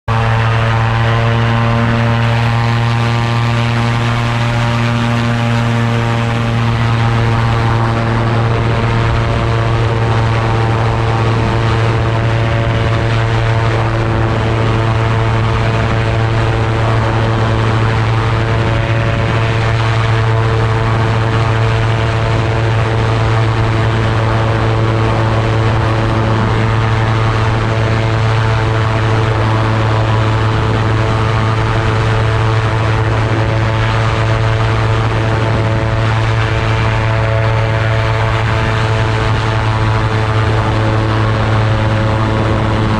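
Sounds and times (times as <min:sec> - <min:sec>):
boat engine and propeller drone: 0:00.0 - 0:42.9.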